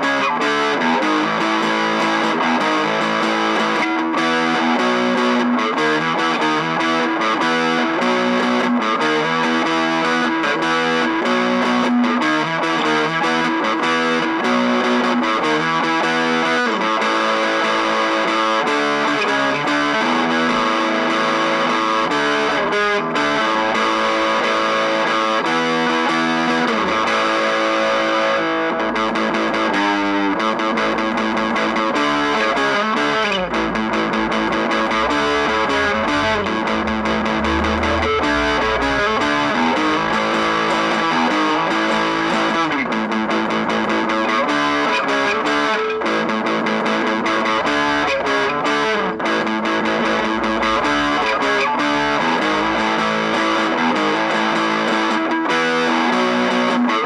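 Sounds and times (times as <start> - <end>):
punk rock music: 0.0 - 57.0.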